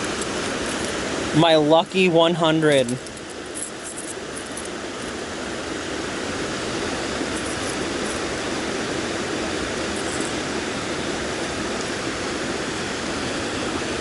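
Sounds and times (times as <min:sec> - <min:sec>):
rushing river water: 0:00.0 - 0:14.0.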